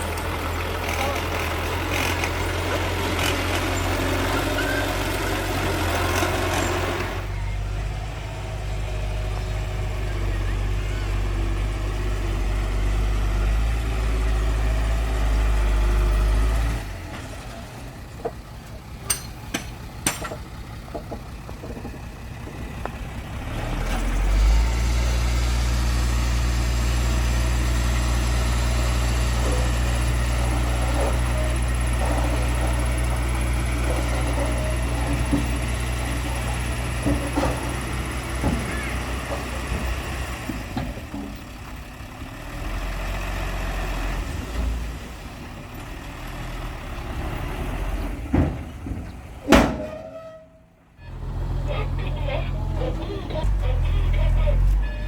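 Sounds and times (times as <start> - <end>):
heavy diesel engine humming: 0.0 - 55.0.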